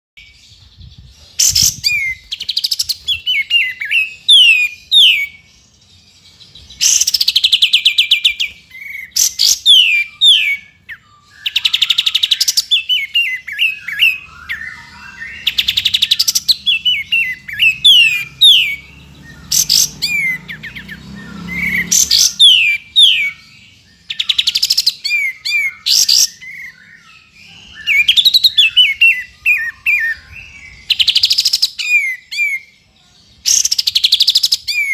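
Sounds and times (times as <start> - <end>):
bird singing trills and whistles: 0.2 - 34.9.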